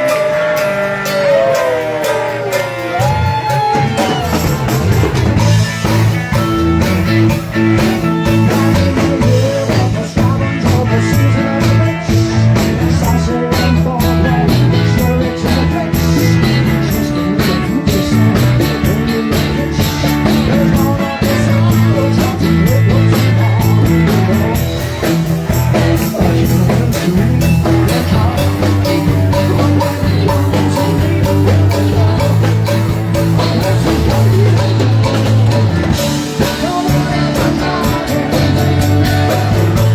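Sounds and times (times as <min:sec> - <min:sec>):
bass line: 0:00.0 - 0:39.9
live rock band playing: 0:00.0 - 0:39.9.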